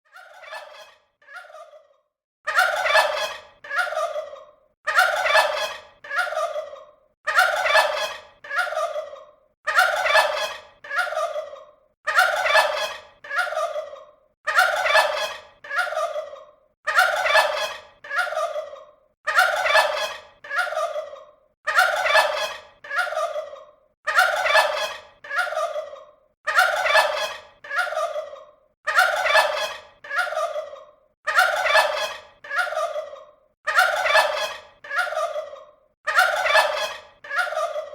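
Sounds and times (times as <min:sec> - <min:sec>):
turkey gobbling: 0:00.1 - 0:37.9.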